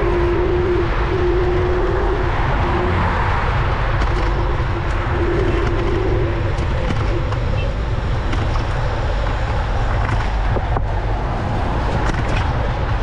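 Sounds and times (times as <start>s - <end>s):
traffic and road noise: 0.0s - 13.0s.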